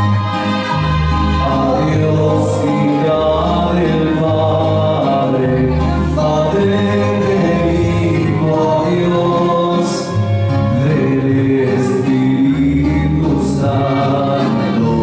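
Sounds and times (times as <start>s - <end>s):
amplified music with bass line: 0.0s - 15.0s
man and boy singing: 1.4s - 10.1s, 10.7s - 15.0s.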